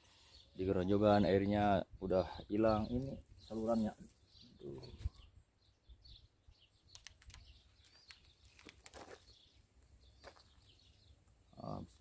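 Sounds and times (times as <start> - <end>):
small birds chirping faintly: 0.0 - 12.0.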